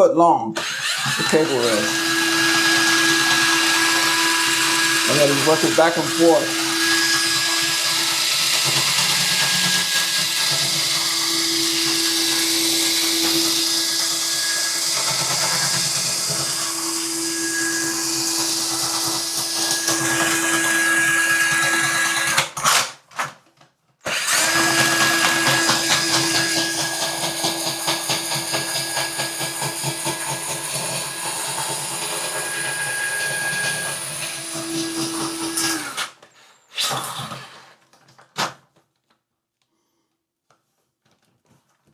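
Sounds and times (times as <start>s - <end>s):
drain auger motor whine: 0.6s - 22.3s, 24.1s - 36.1s.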